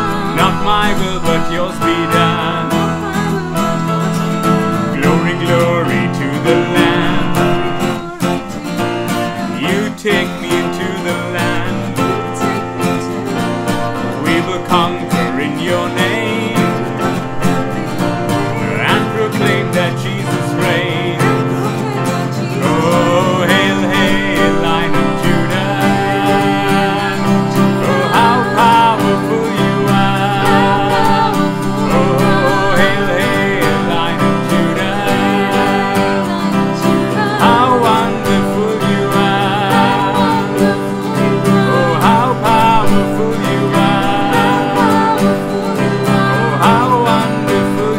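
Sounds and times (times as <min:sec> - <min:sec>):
acoustic guitar: 0:00.0 - 0:47.9
keyboard: 0:00.0 - 0:47.9
man singing: 0:00.0 - 0:47.9.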